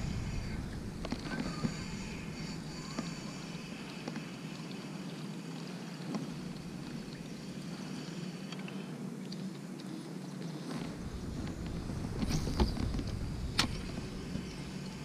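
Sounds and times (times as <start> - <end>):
canoe on water: 0.0 - 15.0.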